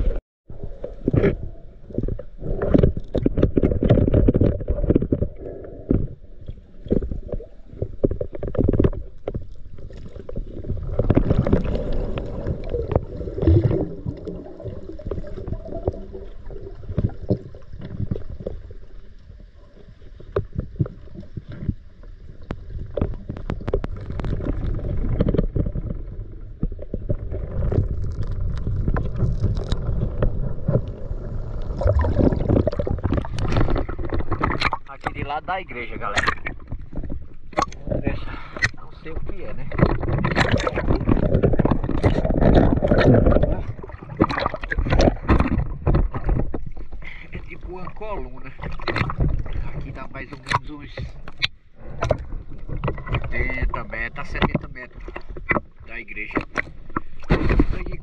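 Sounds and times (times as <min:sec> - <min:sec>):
muffled water sloshing and gurgling: 0:00.0 - 0:58.0.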